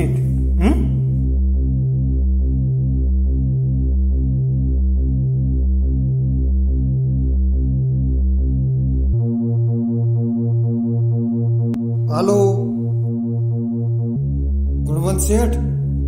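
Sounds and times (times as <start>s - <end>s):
pulsing synthesizer bass: 0.0s - 16.0s.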